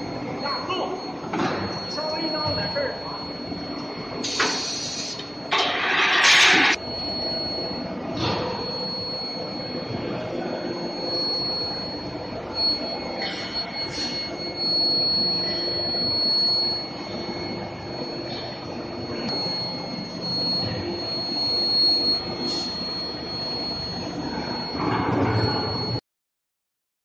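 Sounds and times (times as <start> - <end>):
high-pitched furnace whine: 0.0 - 26.0
machine hum: 0.0 - 26.0.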